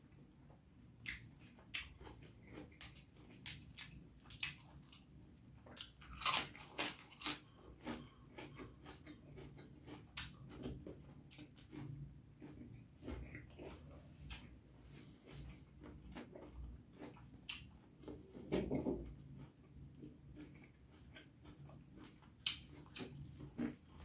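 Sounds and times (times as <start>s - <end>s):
person chewing food: 0.9s - 24.0s.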